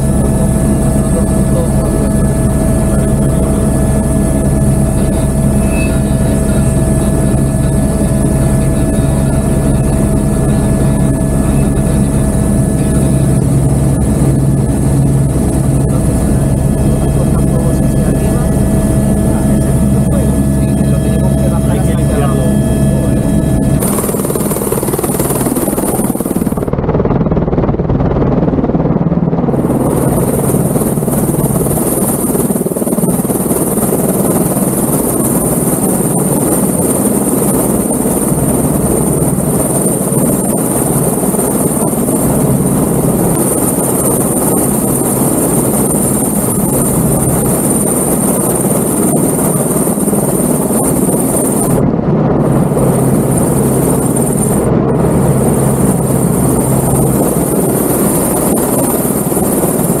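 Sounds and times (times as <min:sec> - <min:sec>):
helicopter running: 0:00.0 - 1:00.0
high turbine whine: 0:00.0 - 1:00.0.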